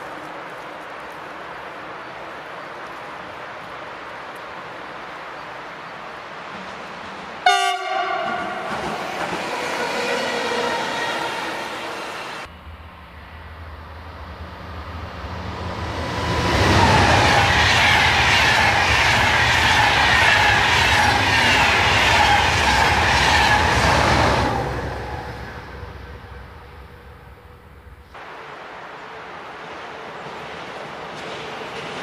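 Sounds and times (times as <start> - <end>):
passenger train passing: 0.0 - 32.0.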